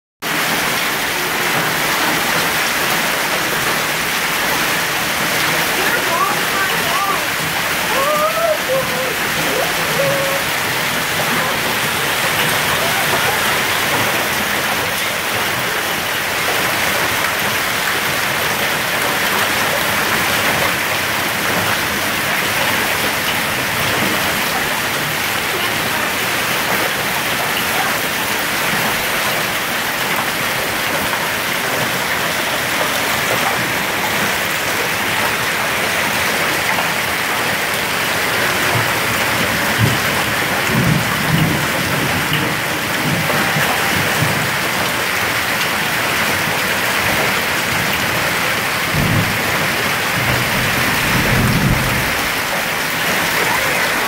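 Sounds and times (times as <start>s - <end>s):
hail and rain falling: 0.2s - 54.0s.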